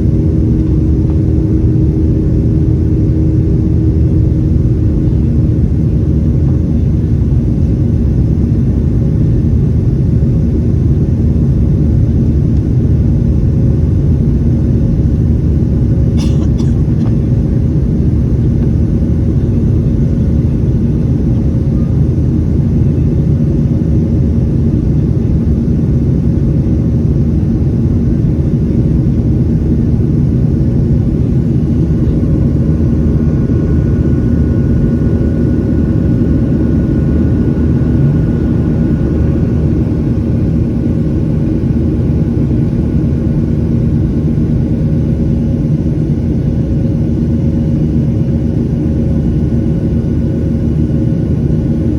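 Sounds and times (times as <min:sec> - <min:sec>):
jet engines rumbling: 0:00.0 - 0:51.9.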